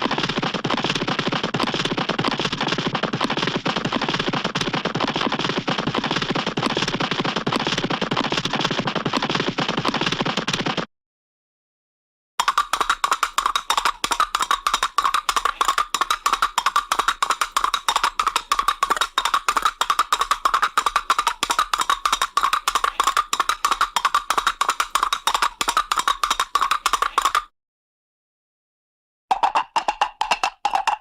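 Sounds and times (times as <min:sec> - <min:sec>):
horse hoofbeats: 0:00.0 - 0:10.9, 0:12.4 - 0:27.5, 0:29.3 - 0:31.0.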